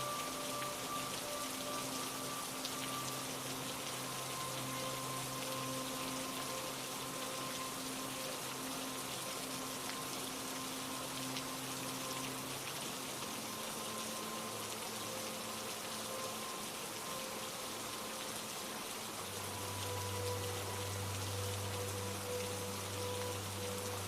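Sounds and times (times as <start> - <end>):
soft held drone: 0.0 - 24.0
steady rain falling: 0.0 - 24.0.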